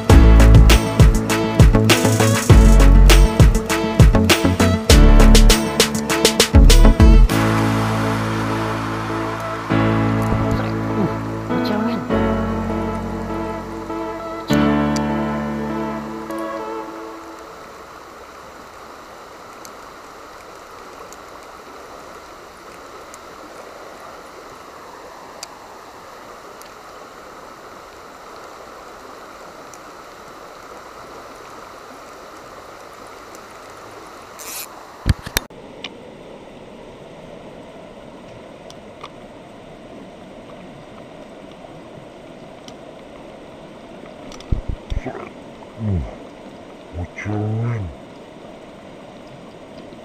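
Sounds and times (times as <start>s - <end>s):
river water rushing: 7.3s - 50.0s.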